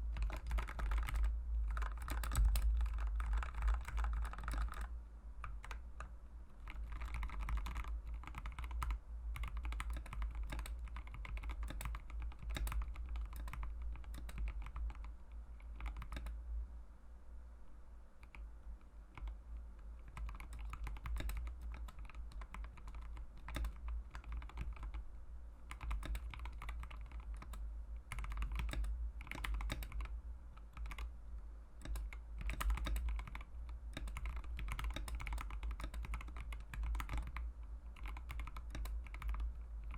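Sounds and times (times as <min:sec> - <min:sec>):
mechanical keyboard typing: 0:00.1 - 0:16.4, 0:19.2 - 0:19.4, 0:20.0 - 0:25.0, 0:25.6 - 0:31.1, 0:31.8 - 0:39.9.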